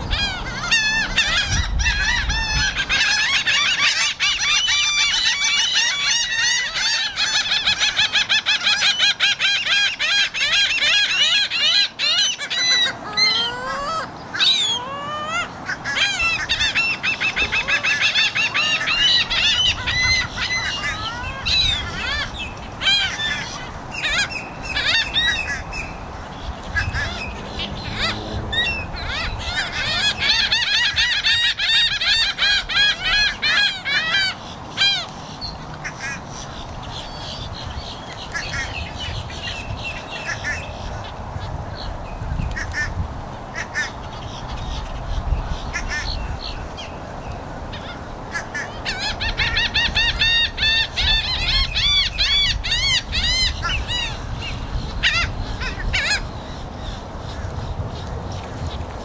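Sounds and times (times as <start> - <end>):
gulls calling: 0.0 - 59.0.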